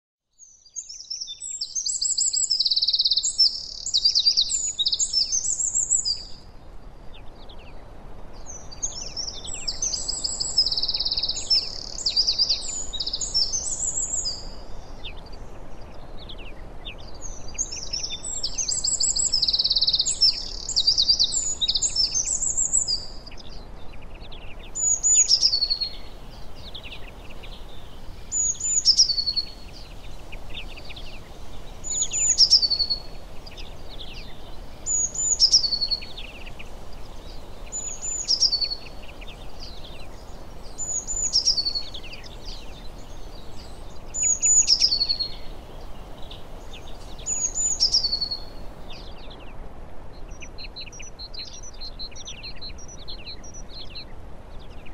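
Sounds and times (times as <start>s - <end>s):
songbird twittering song: 0.2s - 54.9s
faint background hiss: 0.3s - 54.9s.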